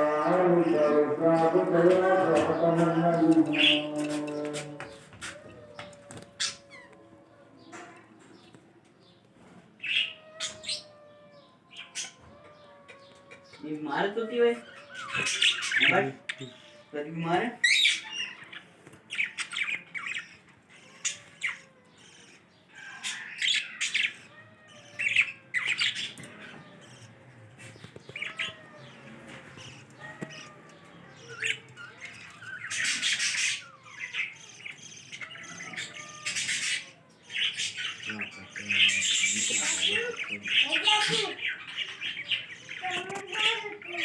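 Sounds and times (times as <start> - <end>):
budgerigars chirping and squawking: 0.0 - 44.0.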